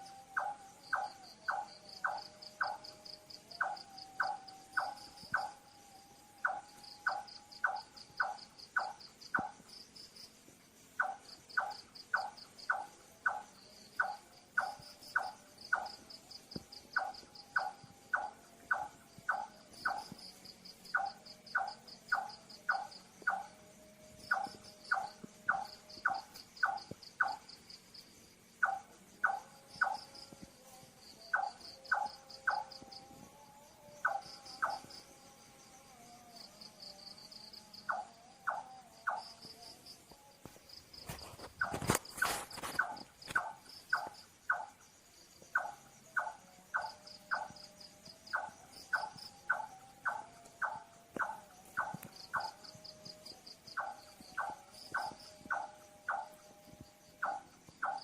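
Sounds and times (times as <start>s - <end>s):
night bird calling: 0.0s - 10.3s, 10.9s - 35.1s, 36.4s - 58.0s
crickets chirping: 0.0s - 58.0s.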